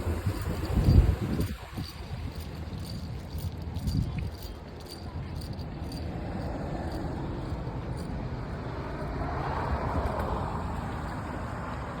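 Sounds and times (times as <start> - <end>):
vehicle low rumble: 0.0 - 12.0.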